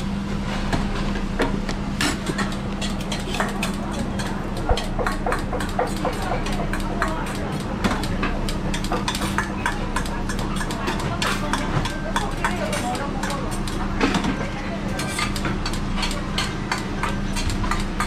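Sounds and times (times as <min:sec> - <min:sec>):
metal bowls and utensils clinking: 0:02.0 - 0:18.0.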